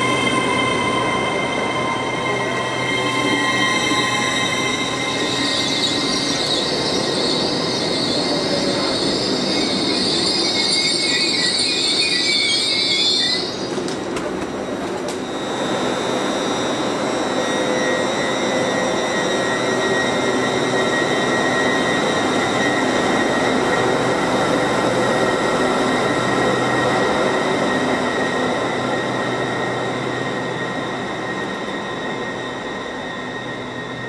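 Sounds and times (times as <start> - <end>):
train wheel squeal: 0.0 - 14.1, 15.0 - 34.0
electric train whine: 0.0 - 34.0
train coaches rumbling past: 0.0 - 34.0.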